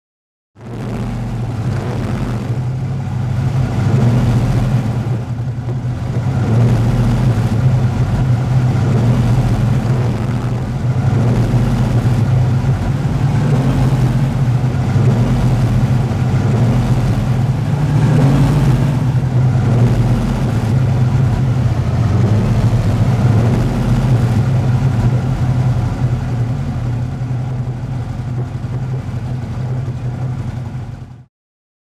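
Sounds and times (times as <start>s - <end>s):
car engine idling: 0.6s - 31.3s.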